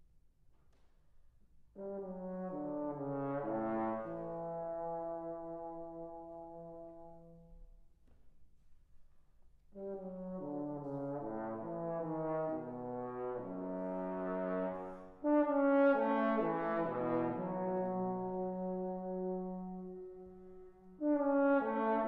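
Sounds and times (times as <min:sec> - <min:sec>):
trombone quartet playing chords: 0:01.8 - 0:07.4, 0:09.8 - 0:22.0.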